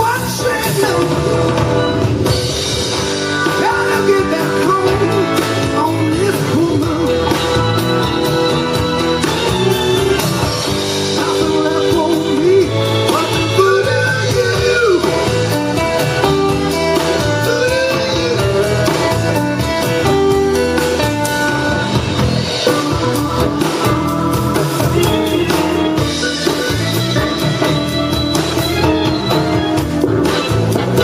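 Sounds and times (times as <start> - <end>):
drum kit playing: 0.0 - 31.0
electric guitar lines: 0.0 - 31.0.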